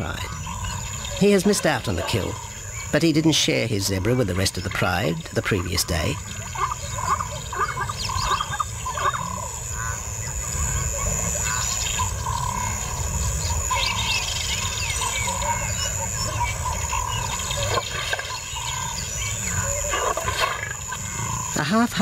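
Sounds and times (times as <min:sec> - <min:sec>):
birds chirping: 0:00.0 - 0:22.0
steady high-pitched buzz: 0:00.0 - 0:22.0.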